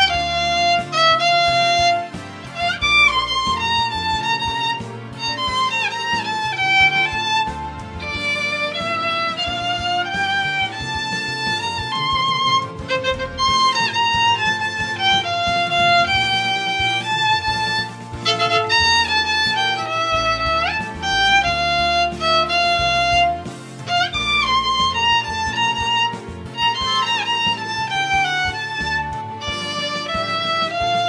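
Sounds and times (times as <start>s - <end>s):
backing track with bass and beat: 0.0s - 31.0s
violin melody: 0.0s - 31.0s.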